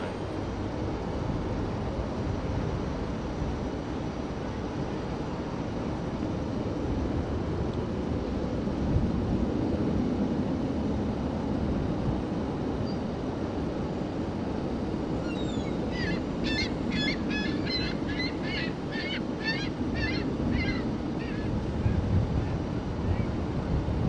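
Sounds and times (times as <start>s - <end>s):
jet airliner rumble: 0.0s - 24.0s
wind noise on microphone: 0.0s - 24.0s.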